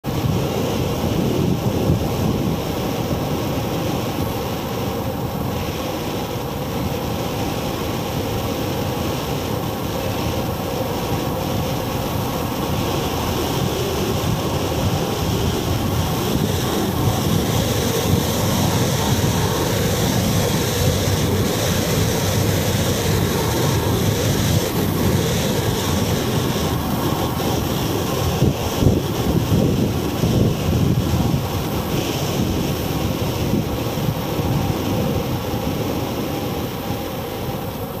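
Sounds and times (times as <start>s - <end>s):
wind over camera microphone: 0.0s - 38.0s
bicycle tyre and road rumble: 0.1s - 38.0s.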